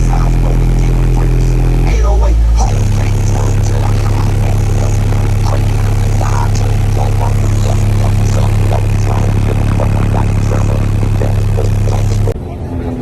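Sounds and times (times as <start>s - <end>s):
vehicle engine running: 0.0s - 12.4s
faint voices: 0.0s - 13.0s.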